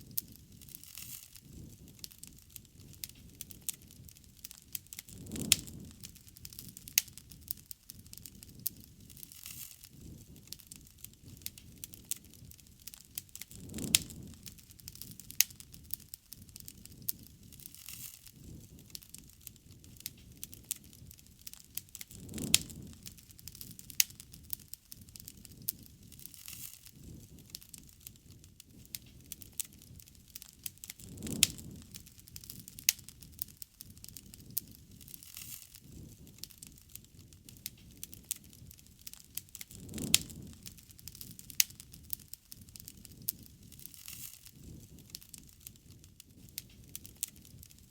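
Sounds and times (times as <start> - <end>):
campfire crackling and popping: 0.0 - 47.9
low fire rushing: 0.0 - 47.9
low rustle of flame: 0.0 - 47.9.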